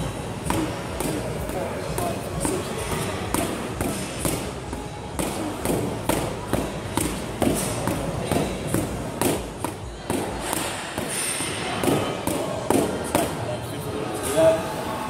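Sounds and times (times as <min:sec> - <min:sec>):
boxing gloves punching mitts: 0:00.0 - 0:13.4.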